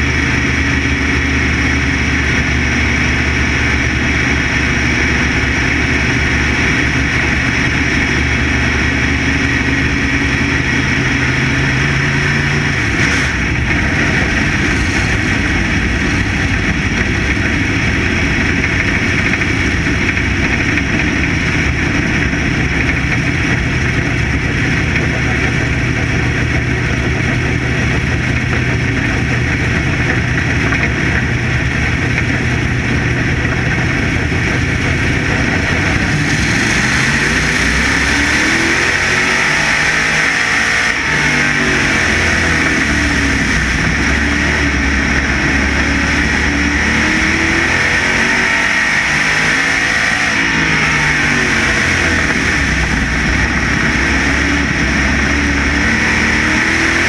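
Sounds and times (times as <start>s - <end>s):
race car engine running hard: 0.0s - 57.0s
rushing noise: 0.0s - 57.0s.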